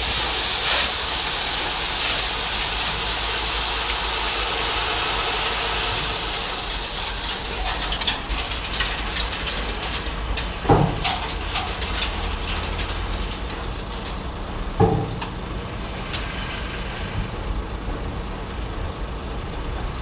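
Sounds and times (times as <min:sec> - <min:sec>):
truck engine humming: 0:00.0 - 0:16.1
gravel pouring off truck bed: 0:00.0 - 0:17.1.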